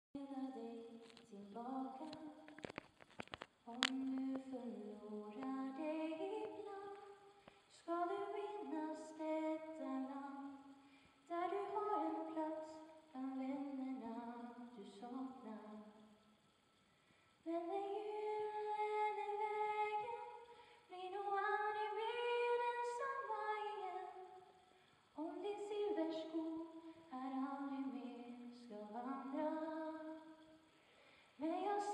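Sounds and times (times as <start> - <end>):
woman singing unaccompanied: 0.2 - 2.7, 3.7 - 16.0, 17.5 - 24.4, 25.2 - 30.5, 31.4 - 31.9.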